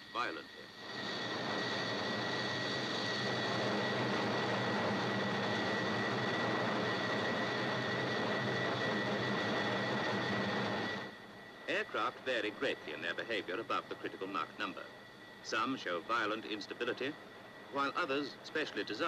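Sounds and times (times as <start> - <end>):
jet aircraft noise in cockpit: 0.0 - 19.0
thin high whine: 0.0 - 19.0.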